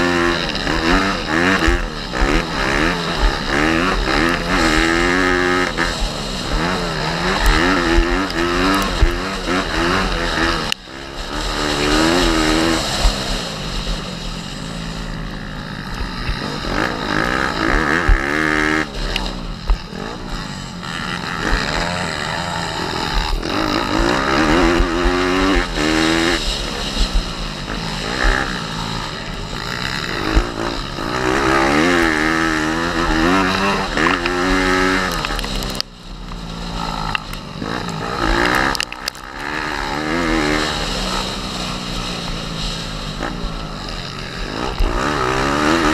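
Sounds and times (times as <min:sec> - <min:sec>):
pit bike engine revving: 0:00.0 - 0:45.9.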